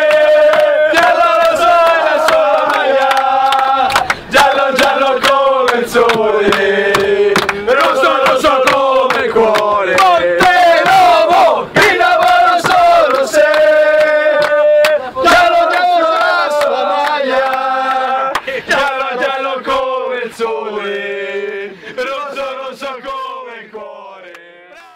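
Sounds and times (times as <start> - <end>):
men chanting in unison: 0.0 - 24.9.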